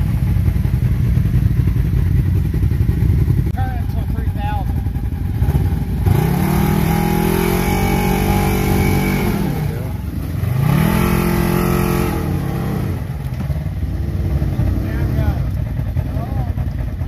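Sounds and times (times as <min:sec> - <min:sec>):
off-road engines revving: 0:00.0 - 0:17.0.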